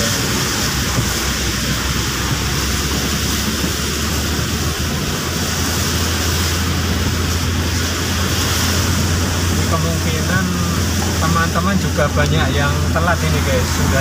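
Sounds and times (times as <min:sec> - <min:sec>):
car engine and tyre rumble: 0:00.0 - 0:14.0
heavy rain on car: 0:00.0 - 0:14.0.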